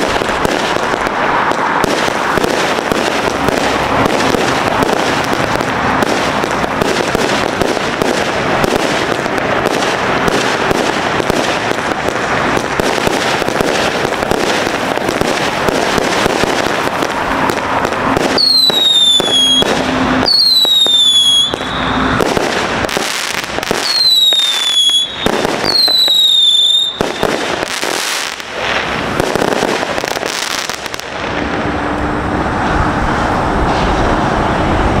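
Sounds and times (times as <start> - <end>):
falling fireworks whistles: 0.0 - 31.1
fireworks launches and bursts: 0.0 - 34.7.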